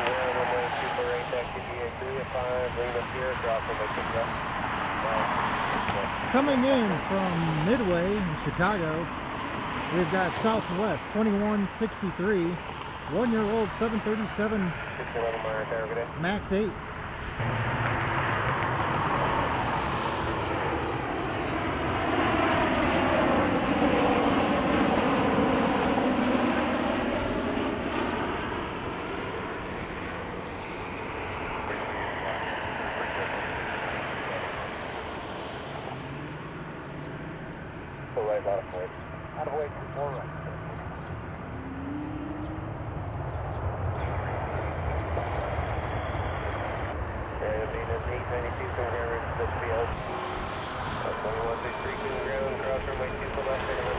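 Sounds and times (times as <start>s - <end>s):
jet passing: 0.0s - 53.9s.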